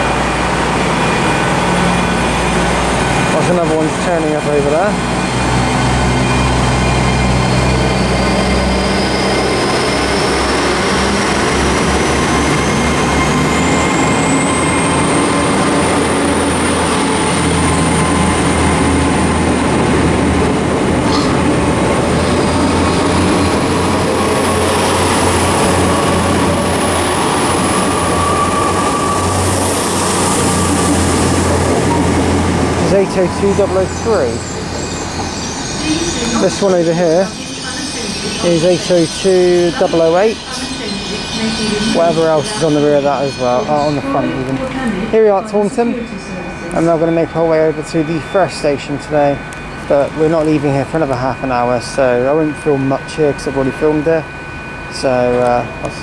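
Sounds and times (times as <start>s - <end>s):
low diesel engine drone: 0.0s - 56.0s
train whine rising in pitch: 0.0s - 56.0s.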